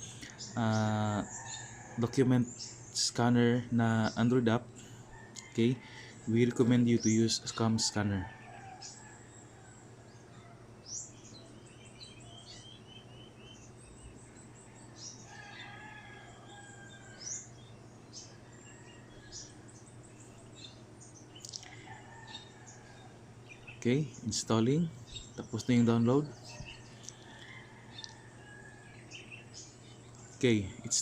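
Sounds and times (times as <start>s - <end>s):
small birds chirping and trilling: 0.0s - 31.0s.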